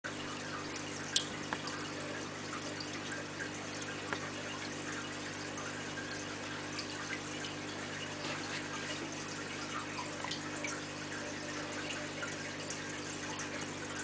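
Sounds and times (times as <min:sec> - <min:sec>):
faint water drips: 0:00.1 - 0:14.0
low pump hum: 0:00.1 - 0:14.0
water trickling and splashing: 0:00.1 - 0:14.0.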